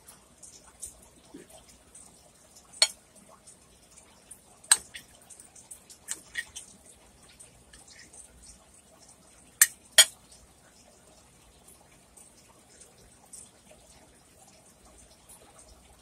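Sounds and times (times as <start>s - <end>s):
soft wet ticks: 0.0s - 16.0s.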